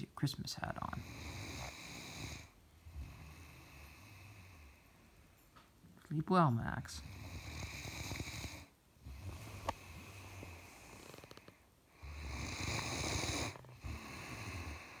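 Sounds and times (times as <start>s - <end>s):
dog snoring: 0.7s - 5.2s, 7.0s - 15.0s.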